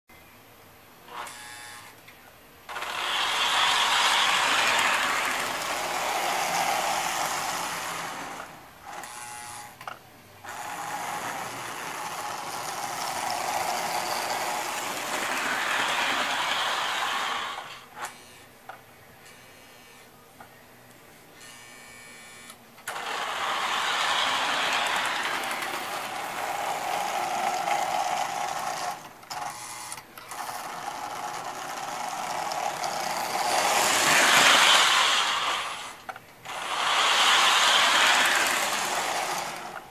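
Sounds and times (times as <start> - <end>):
model train motor whirring and rattling: 2.7 - 18.5, 22.8 - 39.9.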